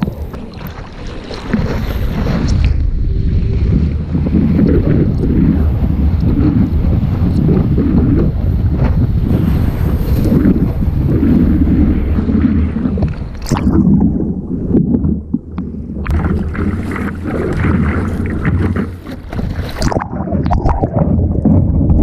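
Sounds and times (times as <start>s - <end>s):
water splashing and rushing: 0.0s - 22.0s
wind buffeting microphone: 0.0s - 22.0s.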